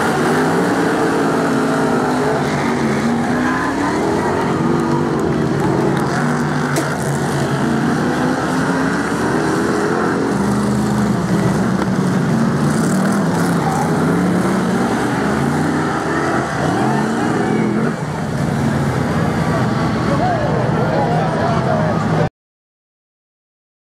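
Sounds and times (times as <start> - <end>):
stock car engines passing: 0.0 - 22.3.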